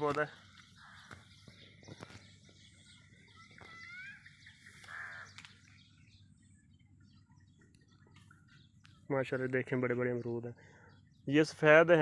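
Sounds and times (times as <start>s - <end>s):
faint bird calls: 0.0s - 11.6s.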